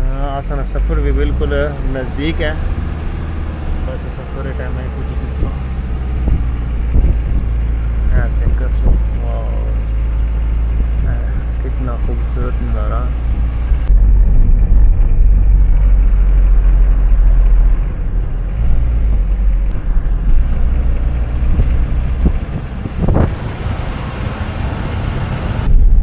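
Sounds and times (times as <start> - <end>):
moving car rumble: 0.0 - 26.0
wind buffeting microphone: 4.6 - 26.0.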